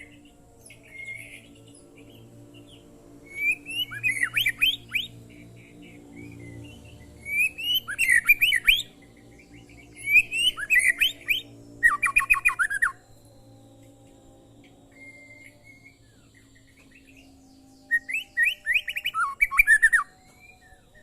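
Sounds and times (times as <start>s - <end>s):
bird singing whistled chirps: 0.0s - 21.0s.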